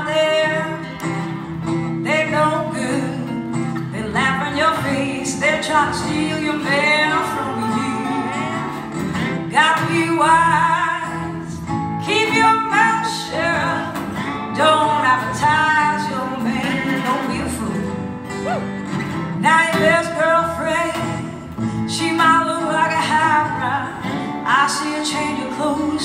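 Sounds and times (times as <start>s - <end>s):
acoustic guitars: 0.0s - 26.0s
woman singing blues: 0.0s - 26.0s.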